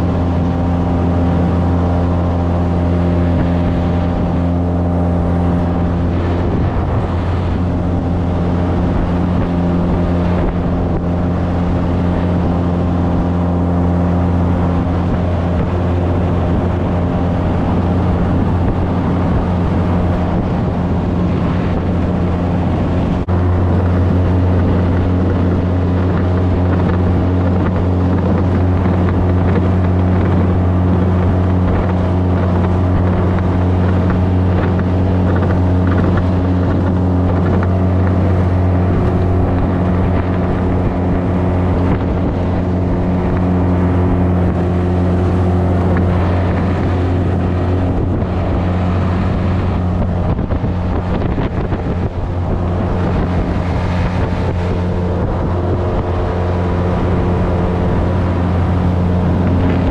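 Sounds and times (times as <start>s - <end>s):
outboard motor running: 0.0s - 59.9s
wind buffeting microphone: 0.0s - 59.9s.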